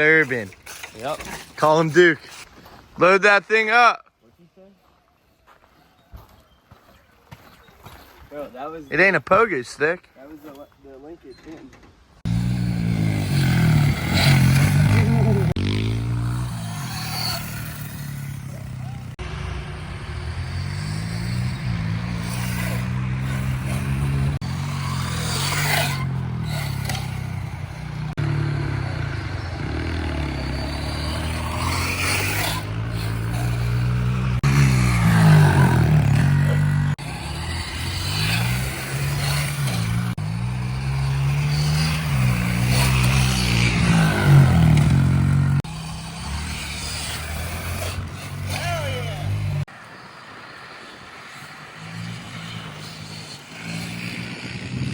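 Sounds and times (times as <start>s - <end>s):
pit bike engines revving: 0.0s - 2.5s, 11.5s - 54.9s.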